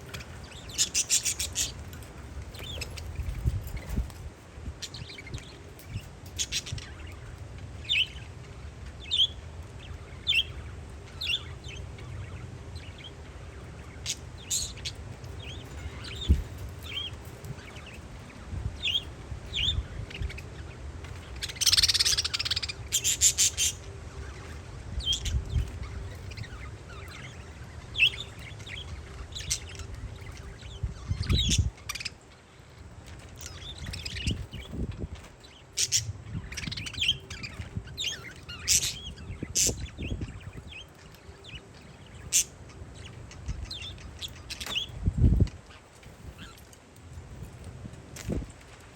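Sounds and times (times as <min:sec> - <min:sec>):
wind buffeting microphone: 0:00.0 - 0:32.1, 0:33.4 - 0:48.9
parakeets chirping: 0:00.0 - 0:47.6.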